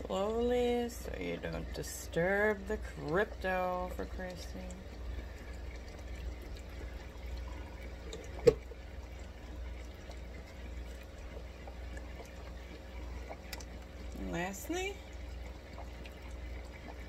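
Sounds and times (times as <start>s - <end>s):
steady low hum: 0.0s - 17.0s
water trickling into a glass bowl: 0.0s - 17.0s.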